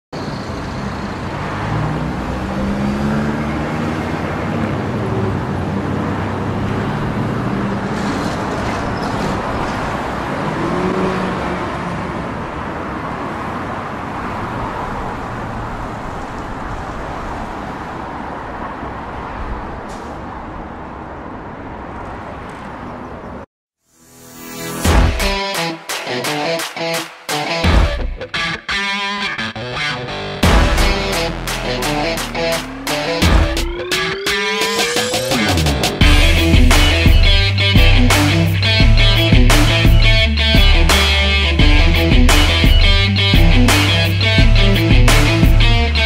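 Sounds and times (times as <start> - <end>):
traffic noise: 0.1 - 46.0
vehicle engines passing: 0.2 - 23.5, 26.2 - 46.0.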